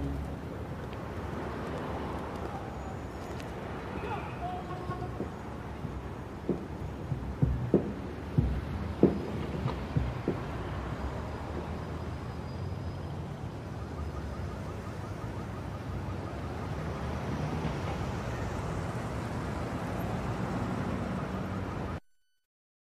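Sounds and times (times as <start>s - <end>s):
city traffic hum: 0.0s - 22.0s.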